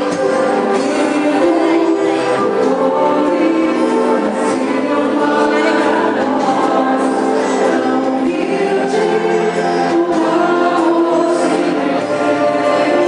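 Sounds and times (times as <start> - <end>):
choir singing: 0.0 - 13.0.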